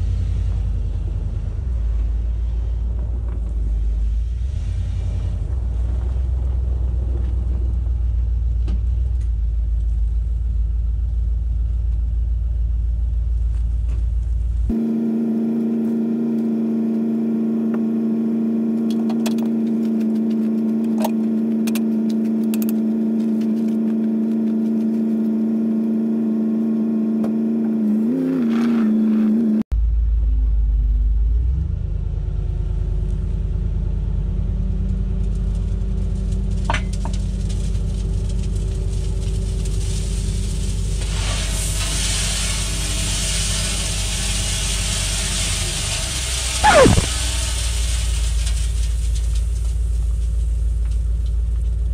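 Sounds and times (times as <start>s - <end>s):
vehicle engine low rumble: 0.0s - 51.9s.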